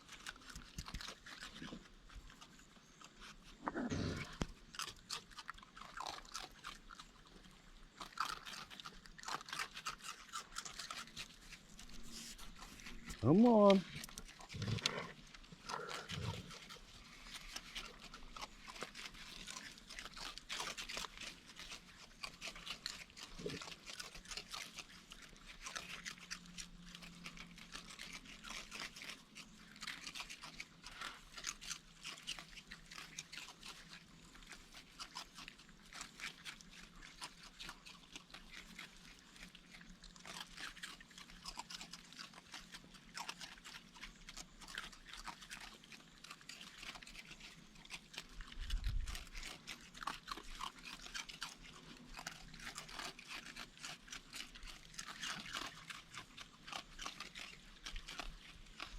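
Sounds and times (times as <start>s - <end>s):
raccoons crunching dry food: 0.0s - 58.9s.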